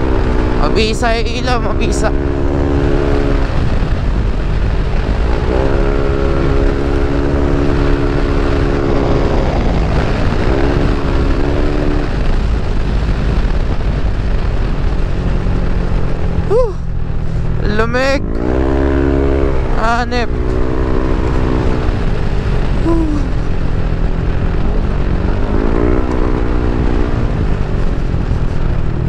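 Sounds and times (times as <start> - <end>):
scooter engine running: 0.0 - 29.0
wind rush on microphone: 0.0 - 29.0.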